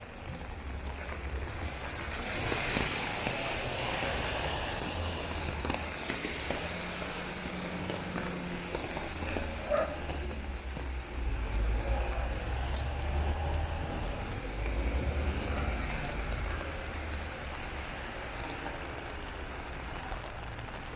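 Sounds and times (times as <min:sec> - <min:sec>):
passing car traffic: 0:00.0 - 0:20.9.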